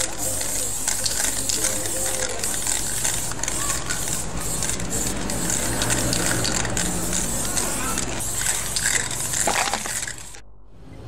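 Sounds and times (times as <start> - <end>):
spray-paint can hissing: 0.0 - 10.4.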